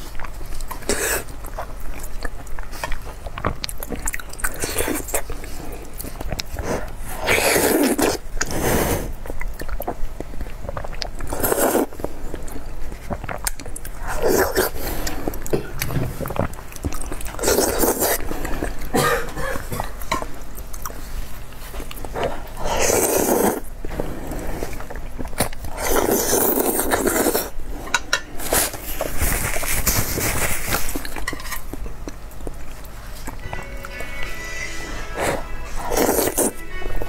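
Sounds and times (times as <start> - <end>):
person chewing and slurping: 0.0 - 37.0.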